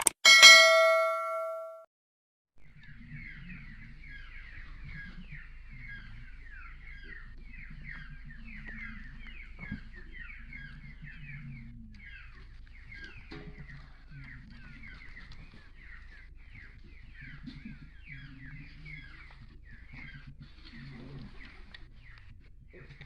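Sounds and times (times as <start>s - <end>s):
pigeons cooing: 2.8s - 23.0s.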